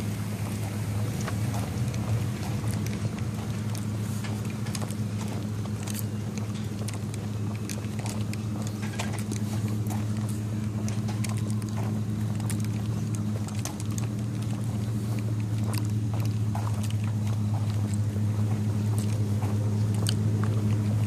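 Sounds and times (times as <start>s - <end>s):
vehicle engine idling: 0.0s - 21.0s
light clicks and ticks: 0.4s - 21.0s.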